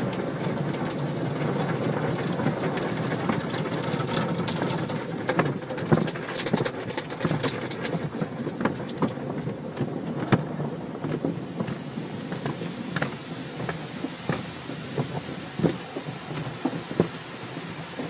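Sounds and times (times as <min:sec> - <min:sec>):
water spray drumming on car: 0:00.0 - 0:18.0.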